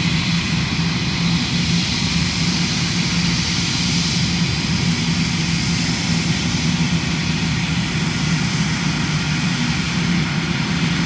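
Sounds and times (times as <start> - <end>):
jet engines at take-off power: 0.0 - 11.0.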